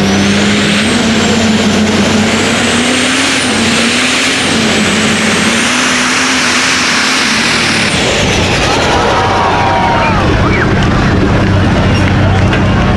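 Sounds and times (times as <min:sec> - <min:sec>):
high whine: 0:00.0 - 0:12.9
tractor engine at high revs: 0:00.0 - 0:12.9.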